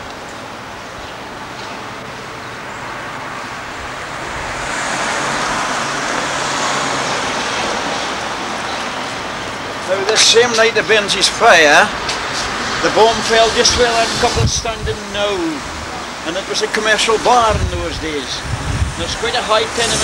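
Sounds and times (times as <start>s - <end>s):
car passing: 0.6s - 20.0s.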